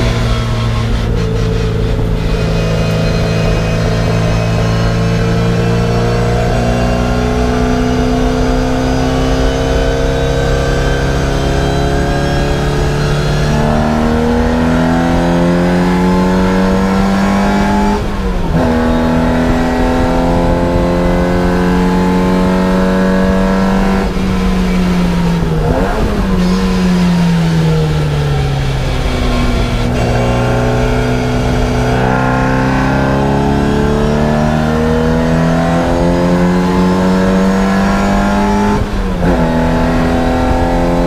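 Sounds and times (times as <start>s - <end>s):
racing car engine revving: 0.0s - 41.0s.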